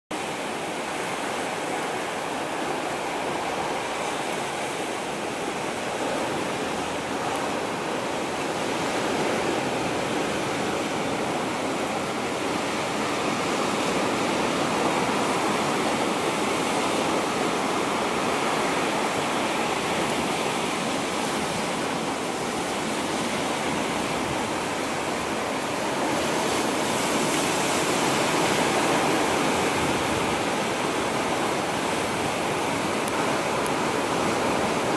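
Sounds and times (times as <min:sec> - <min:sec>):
ocean surf rushing: 0:00.1 - 0:34.9.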